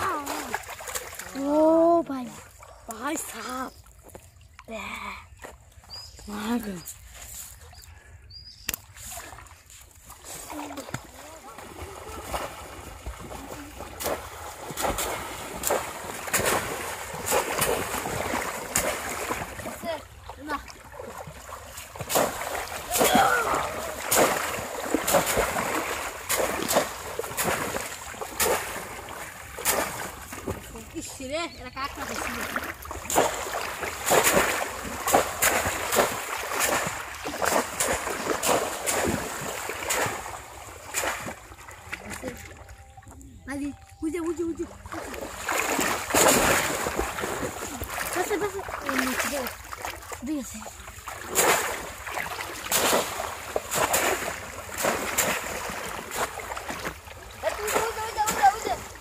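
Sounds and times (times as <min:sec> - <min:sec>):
fish traps splashing into water: 0:00.0 - 0:02.4, 0:08.6 - 0:31.0, 0:32.0 - 0:42.7, 0:44.8 - 0:59.0
water sloshing: 0:00.0 - 0:59.0.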